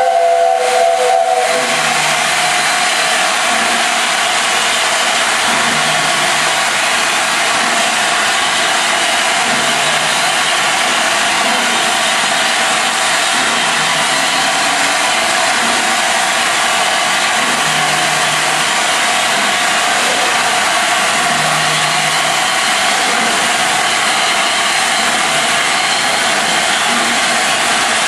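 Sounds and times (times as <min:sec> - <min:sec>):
steam hissing from locomotive: 0:00.0 - 0:28.0.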